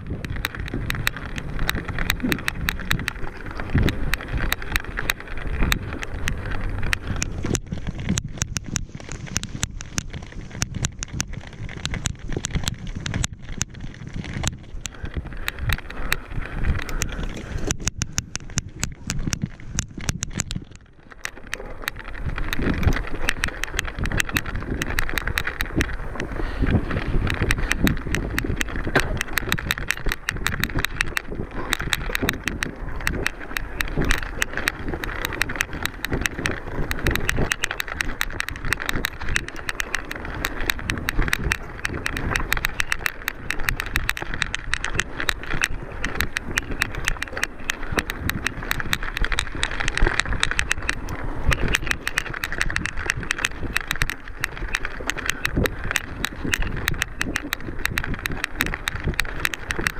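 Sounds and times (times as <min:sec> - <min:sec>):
bike clicking and rattling: 0:00.0 - 0:59.9.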